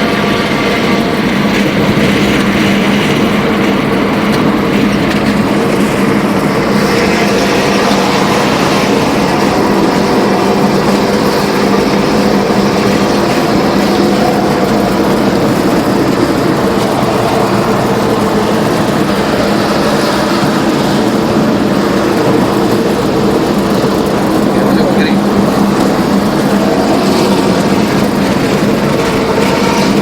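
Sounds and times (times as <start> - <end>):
bus engine droning: 0.0 - 30.0
road and wind noise: 0.0 - 30.0.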